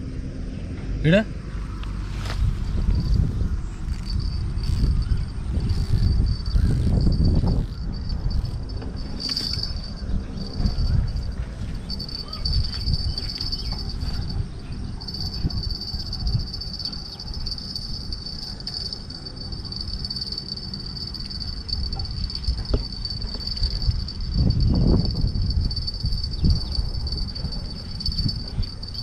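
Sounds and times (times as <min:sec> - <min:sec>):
steady low rumble: 0:00.0 - 0:29.0
insects chirping: 0:02.2 - 0:29.0.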